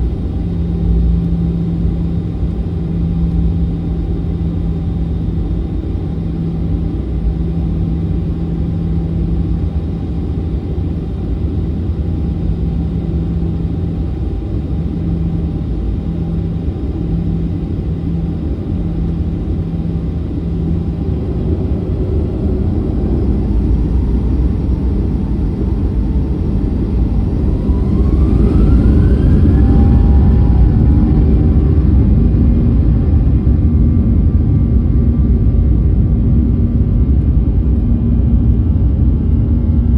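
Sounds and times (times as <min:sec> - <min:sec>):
jet engines whining: 0:00.0 - 0:35.0
jet engines rumbling: 0:00.0 - 0:39.9.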